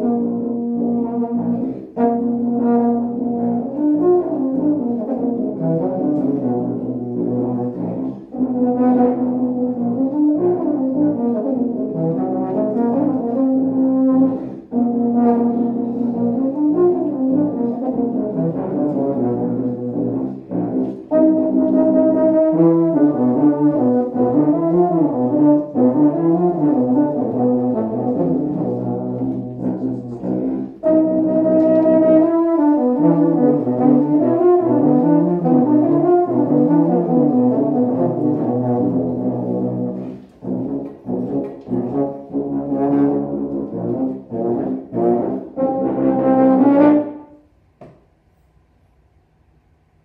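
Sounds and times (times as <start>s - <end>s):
tuba and euphonium duet: 0.0s - 47.5s.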